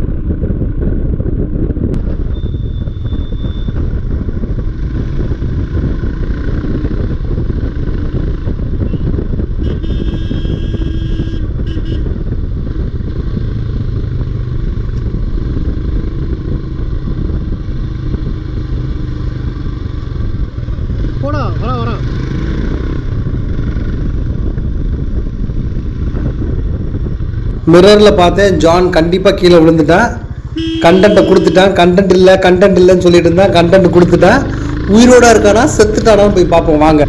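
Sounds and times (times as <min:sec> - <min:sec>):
motorcycle engine at speed: 0:00.0 - 0:37.0
wind noise on microphone: 0:00.0 - 0:37.0.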